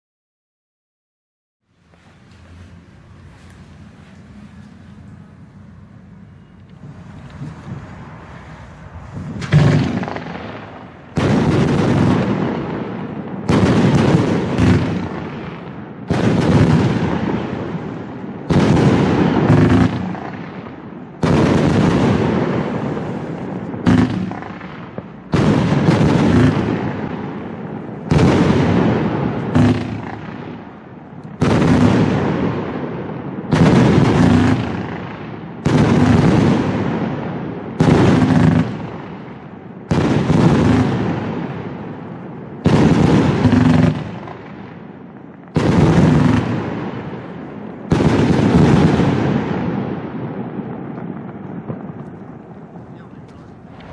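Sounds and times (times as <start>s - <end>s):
firework bangs: 1.8s - 53.9s.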